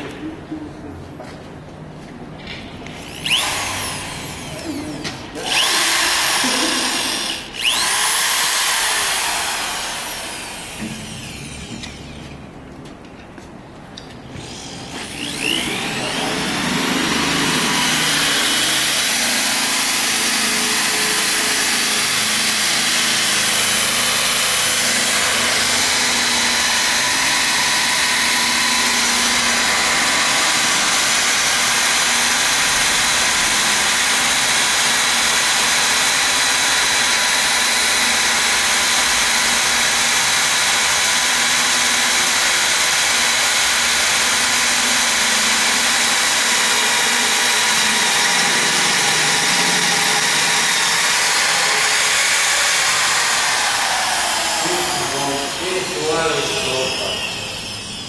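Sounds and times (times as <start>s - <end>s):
corded drill whining: 2.8s - 12.4s, 14.3s - 58.0s.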